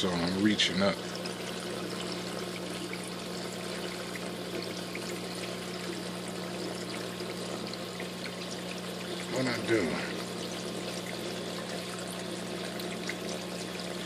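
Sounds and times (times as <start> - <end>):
aquarium water splashing and trickling: 0.0 - 14.0.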